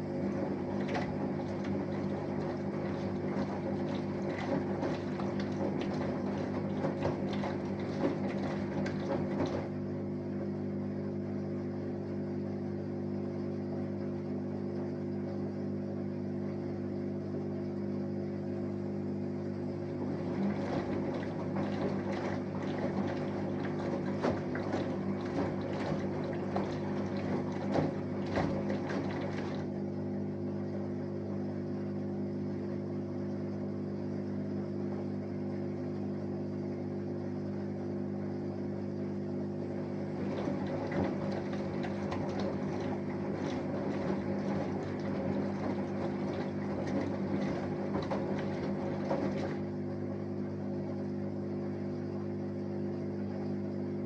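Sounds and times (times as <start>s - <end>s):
water sloshing in drum: 0.0s - 11.2s, 18.1s - 54.0s
washing machine hum: 0.0s - 54.0s.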